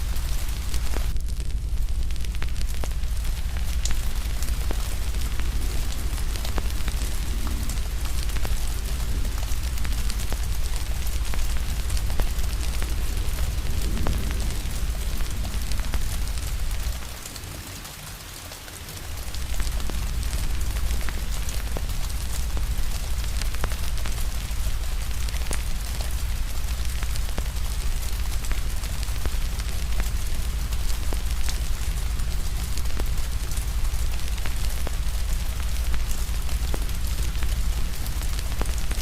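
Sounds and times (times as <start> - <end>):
deep low rumble: 0.0 - 17.3, 19.1 - 39.0
rain falling: 0.0 - 39.0
wood fire crackling: 0.0 - 39.0.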